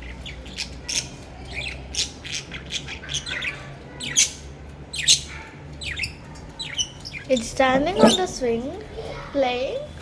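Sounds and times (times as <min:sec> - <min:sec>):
parrots squawking: 0:00.0 - 0:08.5.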